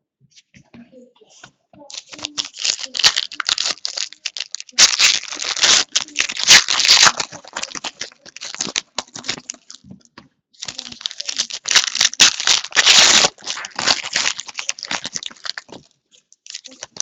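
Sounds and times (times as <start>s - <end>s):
cards rattling: 1.9s - 9.8s, 10.6s - 17.0s
plastic wrapping crinkling and tearing: 1.9s - 9.9s, 10.6s - 17.0s.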